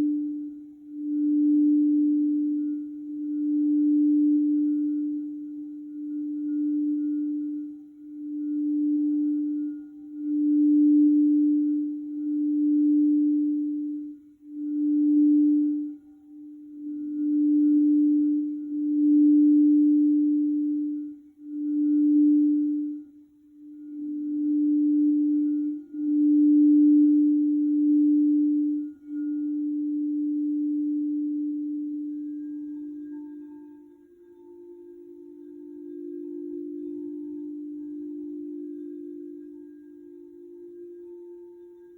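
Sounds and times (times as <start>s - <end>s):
singing bowl tone: 0.0s - 41.9s.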